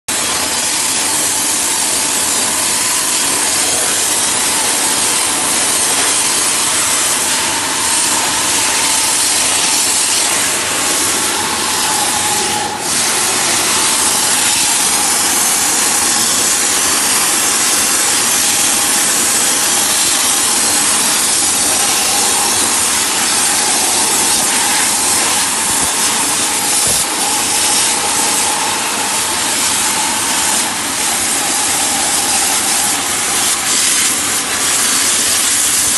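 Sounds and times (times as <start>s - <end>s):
compressed air jet hissing: 0.1s - 35.9s.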